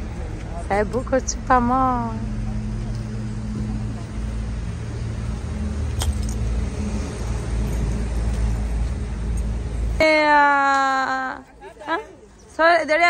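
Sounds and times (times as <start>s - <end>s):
car engine humming: 0.0s - 11.1s.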